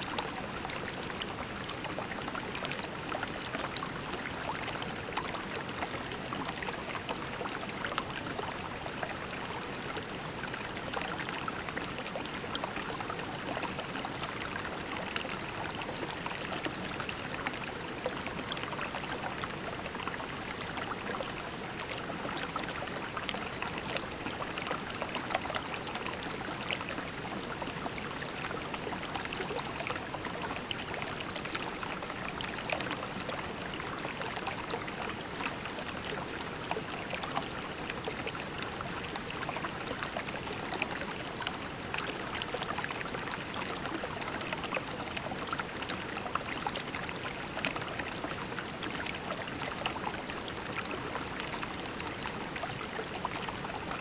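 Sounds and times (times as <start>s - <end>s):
creek water babbling over pebbles: 0.0s - 54.0s.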